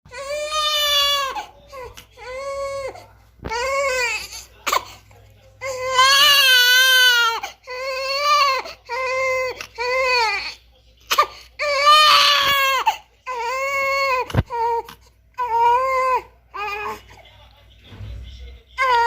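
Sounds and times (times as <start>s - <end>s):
newborn baby crying: 0.1s - 4.9s, 5.6s - 17.2s, 18.8s - 19.0s.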